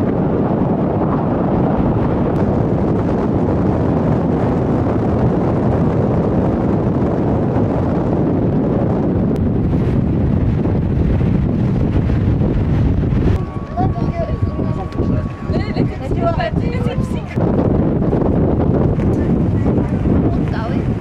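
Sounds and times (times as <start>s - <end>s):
boat running noise: 0.0s - 21.0s
wind buffeting microphone: 0.0s - 21.0s.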